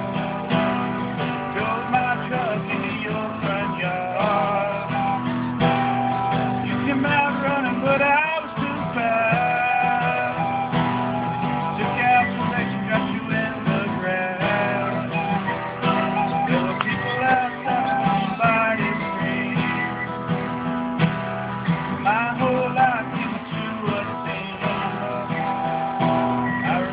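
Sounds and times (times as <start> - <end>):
acoustic guitar strumming: 0.0 - 26.9
recorder melody: 0.0 - 26.9.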